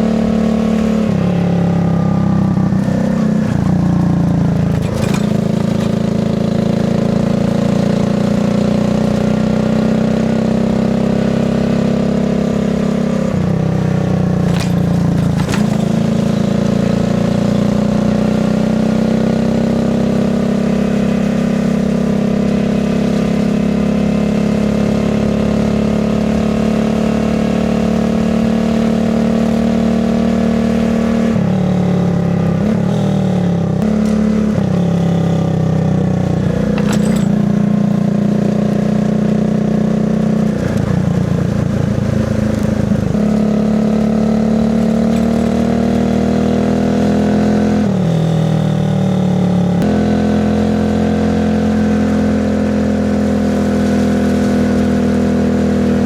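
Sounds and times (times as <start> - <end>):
moped engine running: 0.0 - 56.0.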